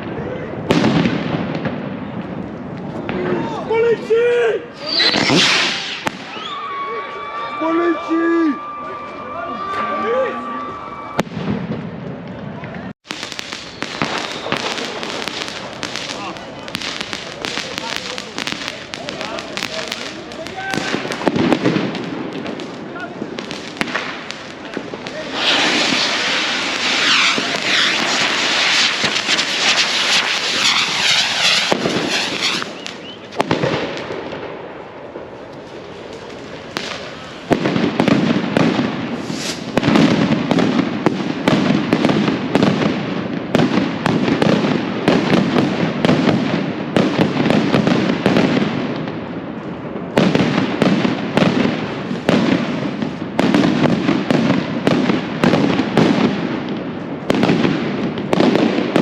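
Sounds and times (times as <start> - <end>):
firecrackers banging and crackling: 4.7 - 6.6, 7.3 - 59.0.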